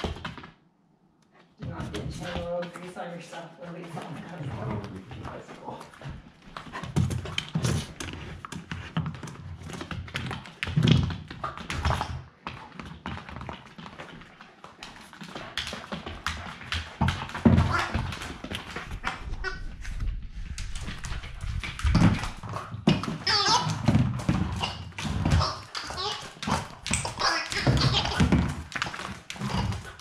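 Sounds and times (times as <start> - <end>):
dog claws tapping on floor: 4.9 - 30.0.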